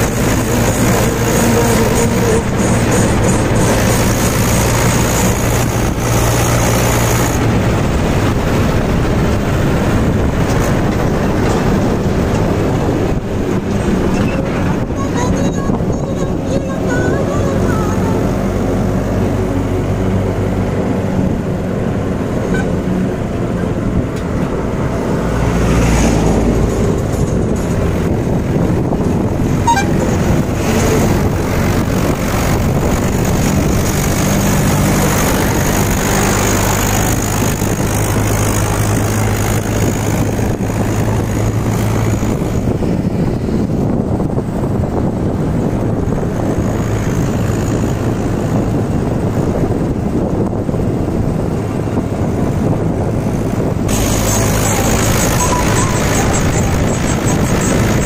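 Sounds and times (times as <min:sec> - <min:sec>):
road noise: 0:00.0 - 0:58.0
tractor diesel engine running: 0:00.0 - 0:58.0.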